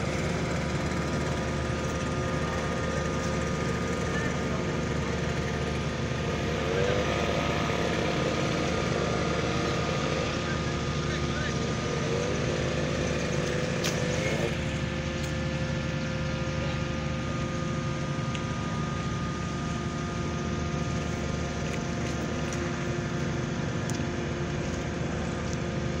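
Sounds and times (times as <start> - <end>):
ship engine humming: 0.0 - 26.0
steady whining tones: 0.0 - 26.0.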